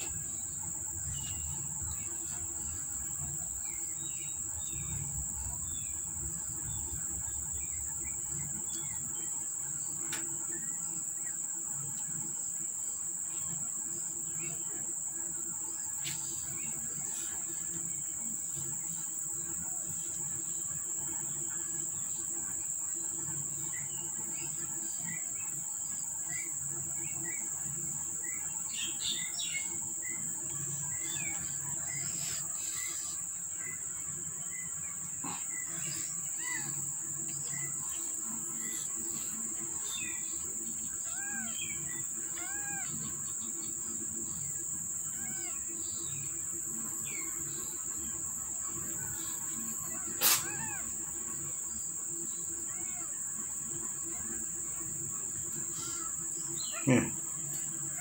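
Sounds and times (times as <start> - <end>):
small birds chirping: 0.0 - 12.2, 16.0 - 58.0
high-pitched insect drone: 0.0 - 58.0.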